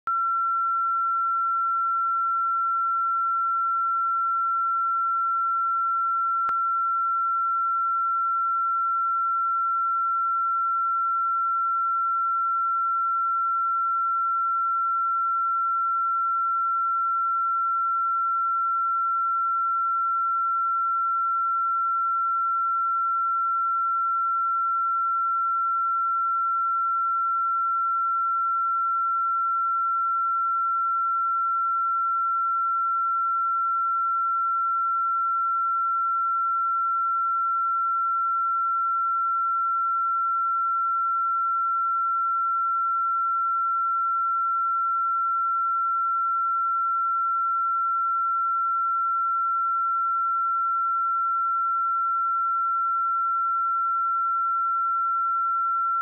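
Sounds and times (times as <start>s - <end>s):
sine wave test tone: 0.0s - 56.0s.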